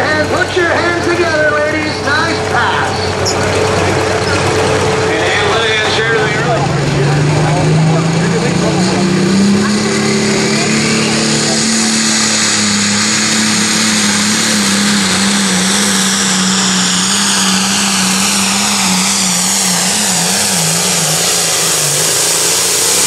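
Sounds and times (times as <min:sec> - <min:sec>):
high turbo whine: 0:00.0 - 0:23.0
tractor diesel engine at full power: 0:00.0 - 0:23.0.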